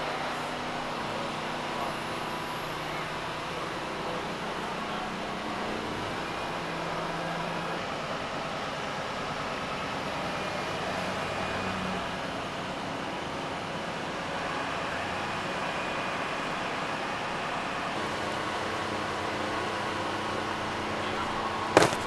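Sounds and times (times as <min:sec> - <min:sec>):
faint uneven engine hum: 0:00.0 - 0:22.0.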